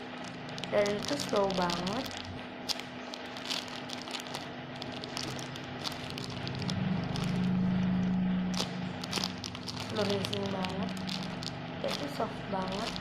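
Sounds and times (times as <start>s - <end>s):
plastic bag crinkling: 0.0s - 13.0s
steady low hum: 0.0s - 13.0s.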